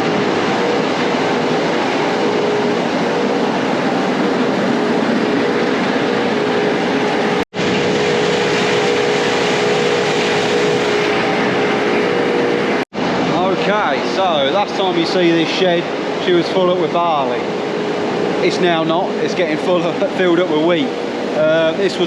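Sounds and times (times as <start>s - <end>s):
heavy farm machinery rumbling: 0.0s - 22.0s.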